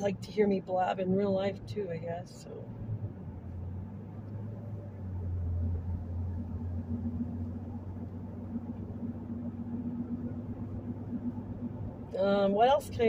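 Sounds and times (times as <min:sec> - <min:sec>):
car engine drone: 0:00.0 - 0:13.0.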